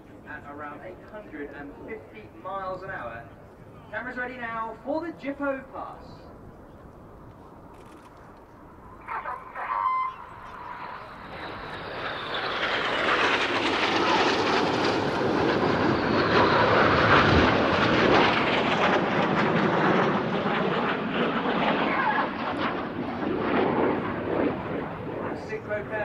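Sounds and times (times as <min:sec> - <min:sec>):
jets passing low: 0:00.0 - 0:26.0.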